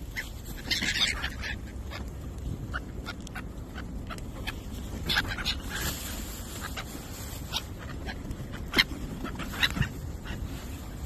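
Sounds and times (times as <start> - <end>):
gulls calling: 0.0 - 11.0
low background rumble: 0.0 - 11.0.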